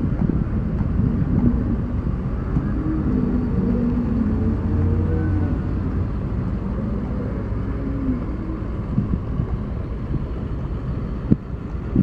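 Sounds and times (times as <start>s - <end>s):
truck engine rumble: 0.0s - 12.0s
tyre noise on wet road: 0.0s - 12.0s.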